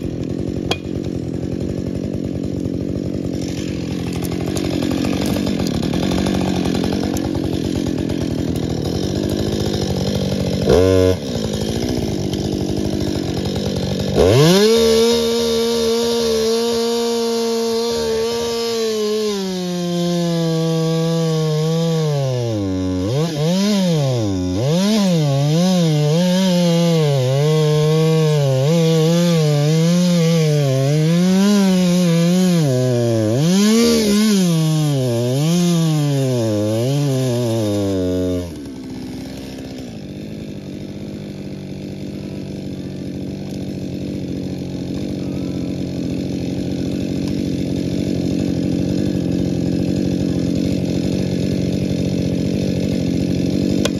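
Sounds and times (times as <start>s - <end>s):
chainsaw cutting through wood: 0.0s - 53.9s.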